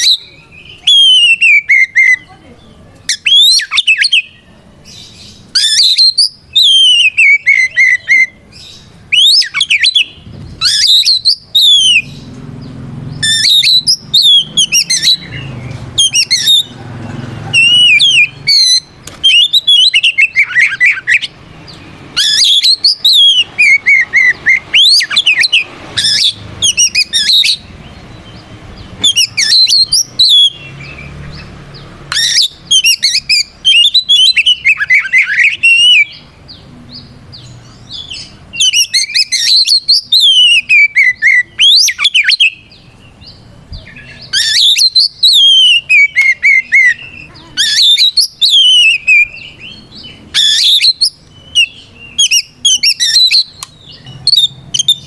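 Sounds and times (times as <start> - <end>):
songbird whistles and trills: 0.0 - 55.0.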